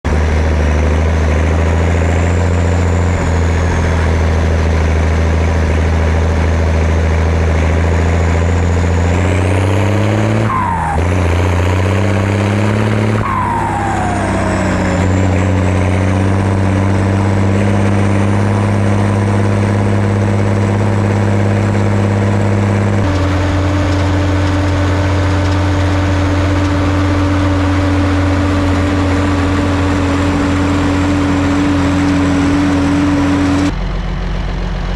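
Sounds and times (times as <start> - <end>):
high turbo whine: 0.0 - 34.9
tractor diesel engine running: 0.0 - 34.9.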